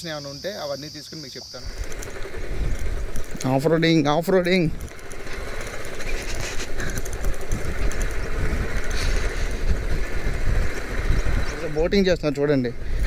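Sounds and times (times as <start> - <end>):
wind and road rumble: 0.0 - 13.0.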